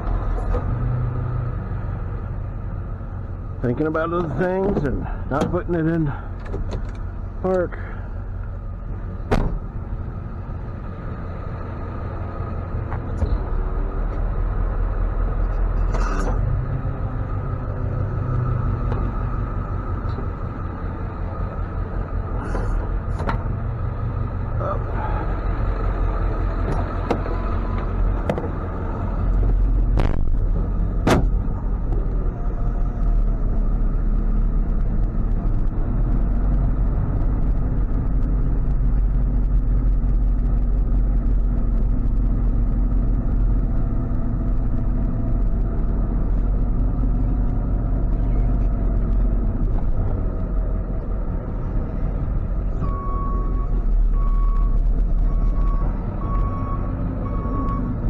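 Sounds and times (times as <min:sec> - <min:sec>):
truck engine rumble and road noise: 0:00.0 - 0:58.0.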